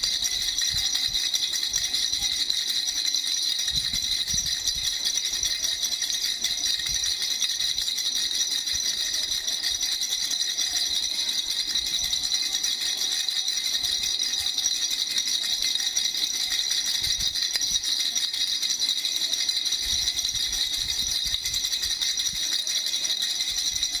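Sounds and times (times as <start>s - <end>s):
baby rattle shaking: 0.0s - 24.0s.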